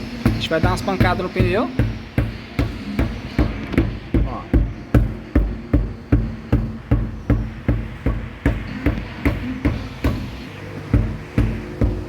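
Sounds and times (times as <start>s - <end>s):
dull thumps on a tyre: 0.1s - 12.0s.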